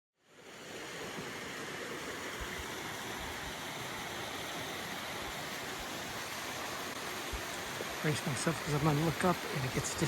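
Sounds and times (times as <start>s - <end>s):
water rushing: 0.2s - 10.0s.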